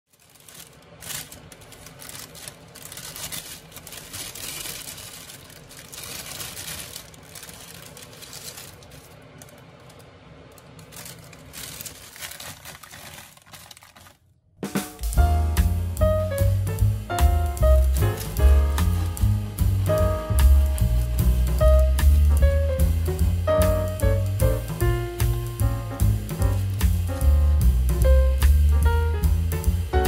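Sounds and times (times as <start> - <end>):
paper bag crinkling: 0.0 - 14.4, 15.0 - 25.5.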